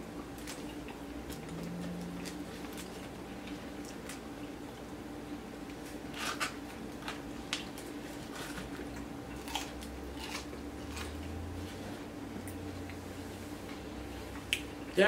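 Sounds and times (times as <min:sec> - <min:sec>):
steady low hum: 0:00.0 - 0:15.0
people eating crispy food: 0:00.4 - 0:04.2, 0:05.8 - 0:14.7.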